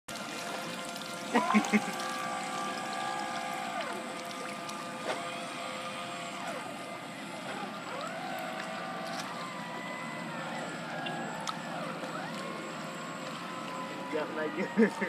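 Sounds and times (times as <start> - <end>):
electric motor whine: 0.1 - 15.0.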